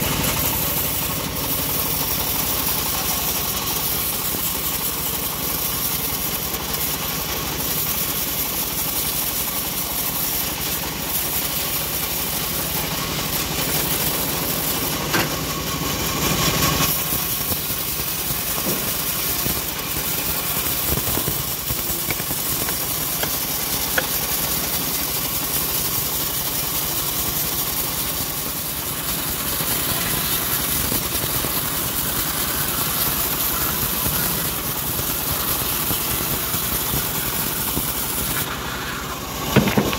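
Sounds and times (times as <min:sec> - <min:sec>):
saw blade hissing in wood: 0:00.0 - 0:39.9
sawmill machine drone: 0:00.0 - 0:39.9.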